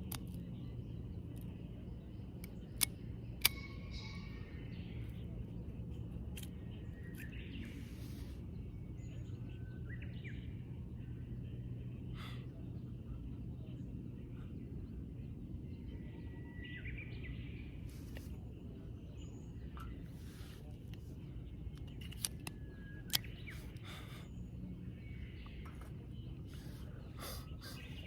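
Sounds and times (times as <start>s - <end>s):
small birds chirping: 0.0s - 28.0s
steady low rumble: 0.0s - 28.0s.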